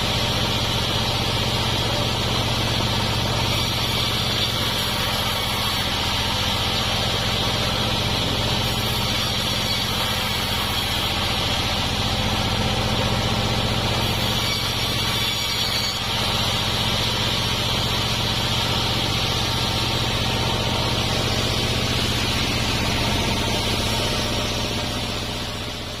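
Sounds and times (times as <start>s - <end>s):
sawmill engine droning: 0.0s - 26.0s
steady high whine: 0.0s - 26.0s.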